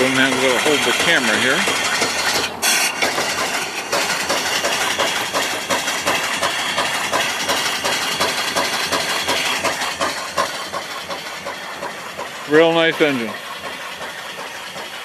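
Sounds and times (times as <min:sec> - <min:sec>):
steam engine exhaust beats: 0:00.0 - 0:15.0
steam hiss: 0:00.0 - 0:15.0.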